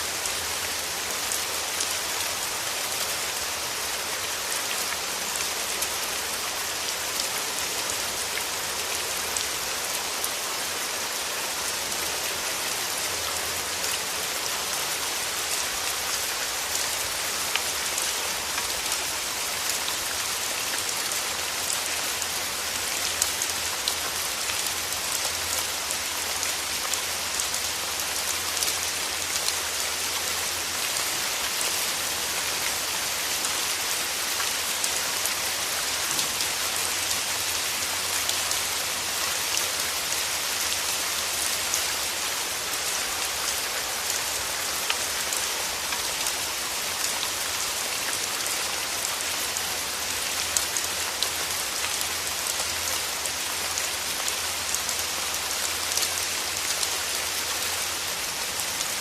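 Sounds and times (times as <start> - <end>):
rain falling through trees: 0.0 - 59.0.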